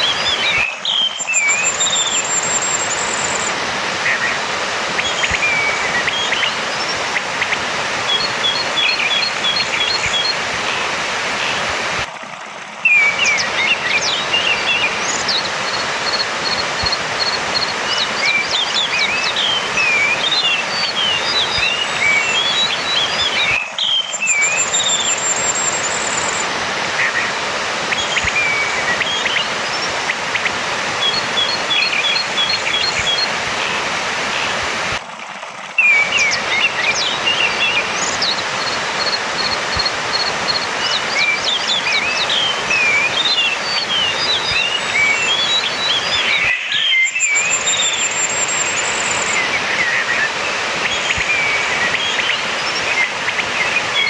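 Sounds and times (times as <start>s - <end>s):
thrush singing: 0.0s - 12.1s, 12.8s - 35.0s, 35.8s - 53.1s
steady background hiss: 0.0s - 54.0s.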